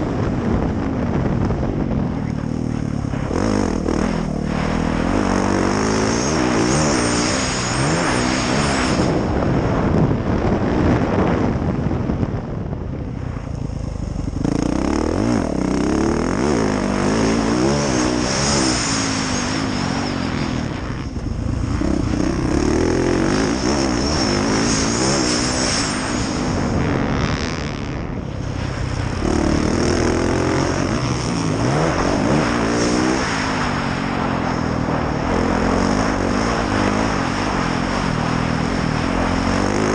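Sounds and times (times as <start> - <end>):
motocross bike engine revving: 2.2 - 9.4, 13.7 - 39.9.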